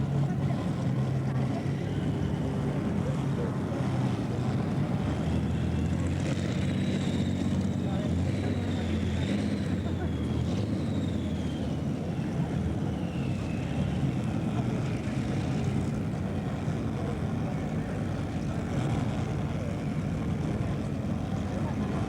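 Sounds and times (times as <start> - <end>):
tractor engine with high whine: 0.0 - 22.0.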